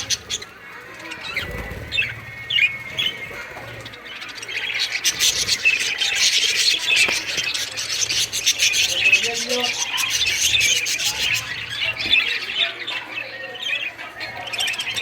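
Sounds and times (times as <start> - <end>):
birds chirping and chattering: 0.0 - 15.0.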